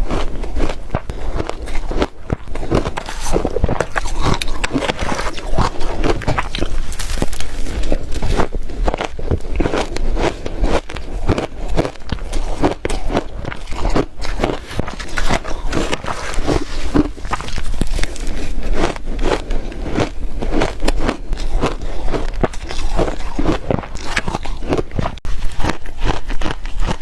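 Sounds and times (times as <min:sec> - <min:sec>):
chewing ice crunches: 0:00.0 - 0:27.0.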